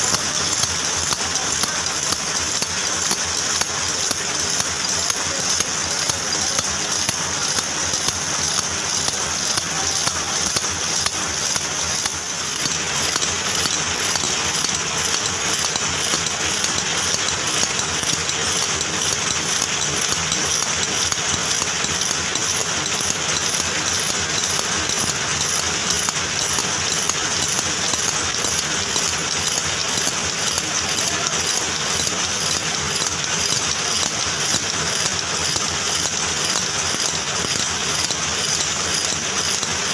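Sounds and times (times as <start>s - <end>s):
screw-making machine clattering: 0.0s - 39.9s
screws rattling into metal pan: 0.0s - 39.9s.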